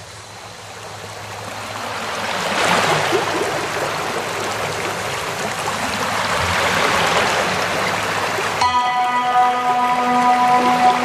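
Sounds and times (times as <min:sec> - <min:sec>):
waves breaking on beach: 0:01.4 - 0:11.0.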